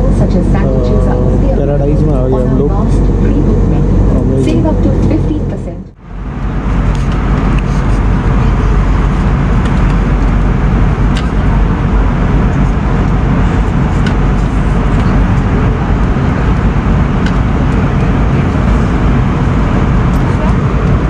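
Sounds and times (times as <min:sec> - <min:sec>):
airliner cabin engine rush: 0:00.0 - 0:21.0.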